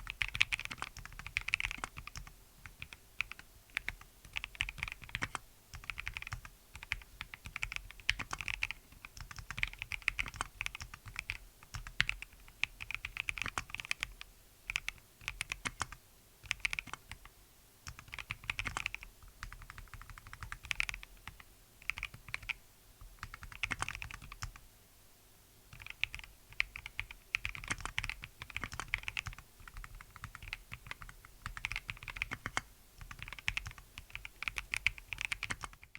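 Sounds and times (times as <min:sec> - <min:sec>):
mechanical keyboard typing: 0:00.0 - 0:17.3, 0:17.9 - 0:22.6, 0:23.2 - 0:24.6, 0:25.7 - 0:35.9.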